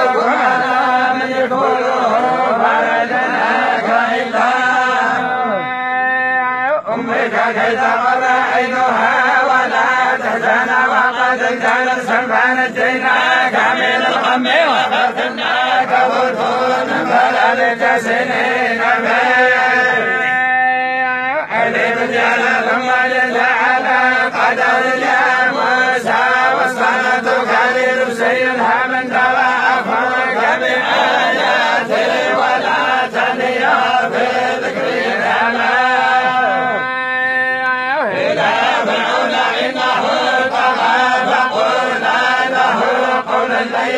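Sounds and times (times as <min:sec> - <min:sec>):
men chanting in unison: 0:00.0 - 0:43.9.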